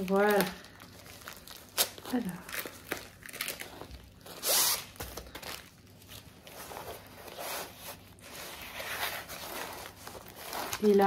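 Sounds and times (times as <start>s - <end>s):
paper wrapping rustling: 0.0s - 11.0s.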